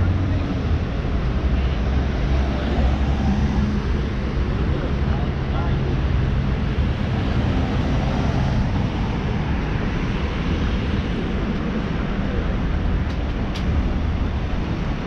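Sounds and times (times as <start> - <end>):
cars driving past: 0.0 - 15.0
rumble of engines and tyres: 0.0 - 15.0.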